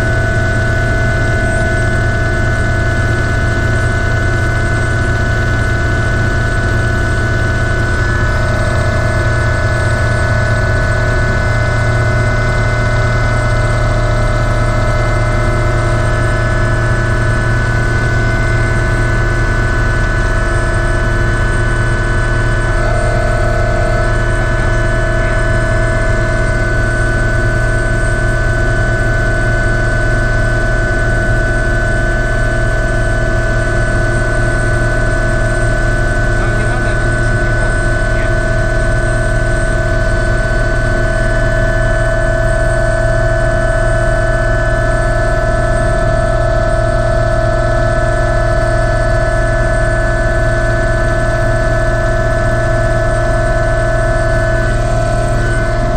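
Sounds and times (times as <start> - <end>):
helicopter engine and rotor drone: 0.0 - 55.9.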